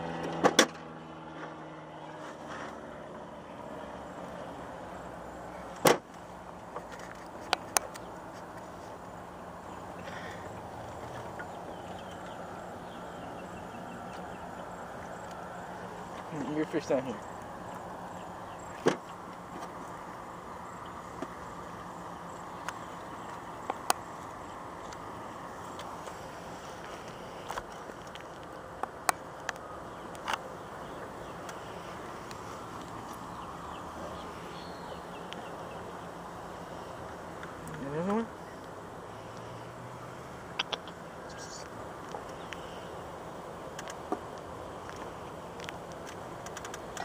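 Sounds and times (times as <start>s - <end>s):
low motor hum: 0.0s - 47.0s
outdoor background noise: 0.0s - 47.0s
background hiss: 3.7s - 47.0s.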